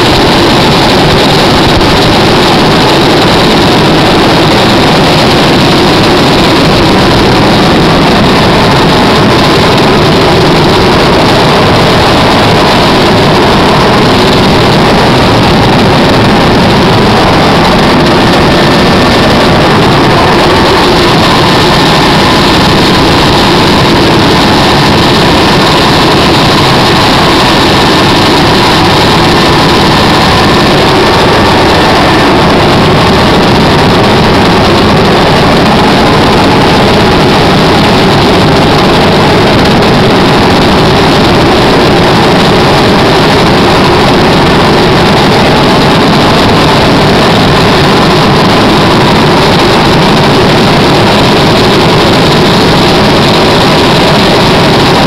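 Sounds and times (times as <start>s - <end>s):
helicopter engine and rotor: 0.0s - 55.0s.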